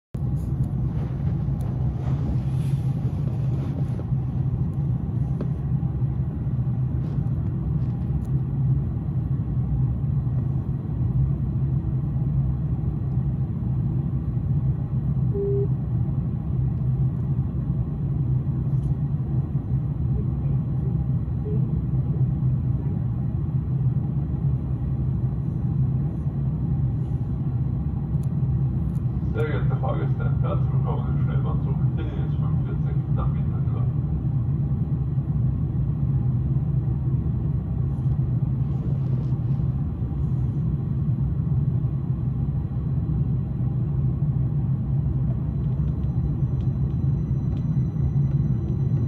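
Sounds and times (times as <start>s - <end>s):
electric train low rumble: 0.1s - 49.0s.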